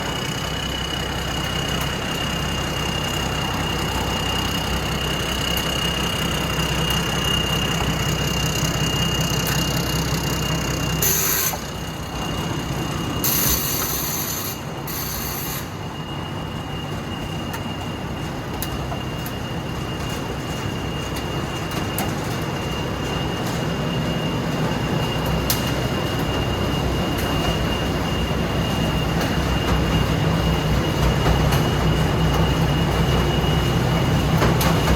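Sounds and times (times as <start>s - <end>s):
combine harvester engine drone: 0.0s - 34.9s.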